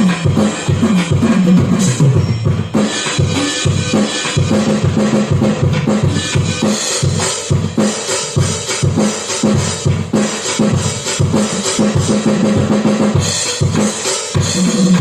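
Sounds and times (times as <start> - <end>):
drum beat with cymbals: 0.0 - 15.0.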